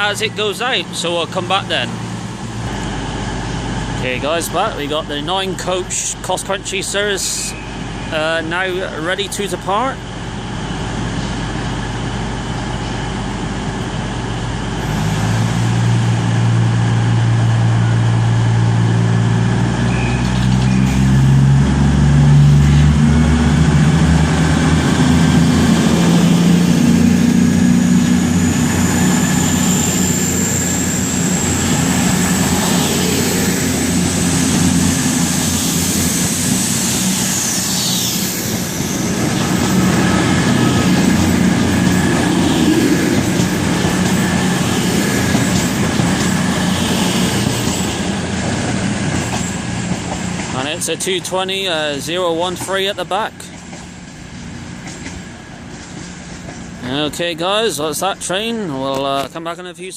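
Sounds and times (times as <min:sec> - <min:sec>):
diesel train engines running: 0:00.0 - 0:59.9.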